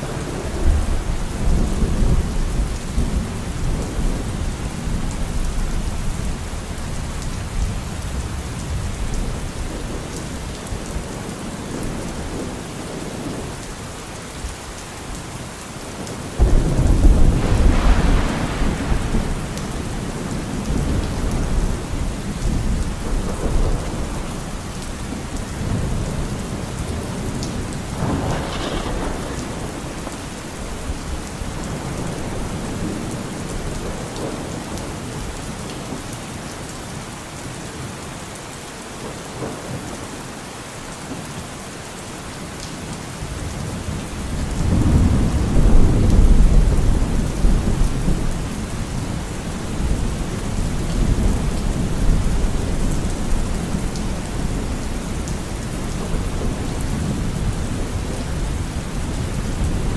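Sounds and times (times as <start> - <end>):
rolling thunder: 0.0 - 13.5, 16.3 - 35.3, 44.2 - 59.9
steady rain falling: 0.0 - 59.9.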